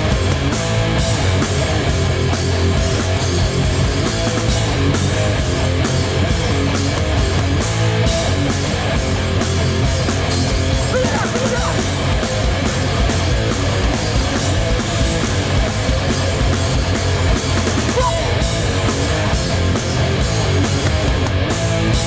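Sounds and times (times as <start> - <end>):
distorted electric guitars: 0.0 - 22.0
drum kit pounding: 0.0 - 22.0
punk band playing live: 0.0 - 22.0.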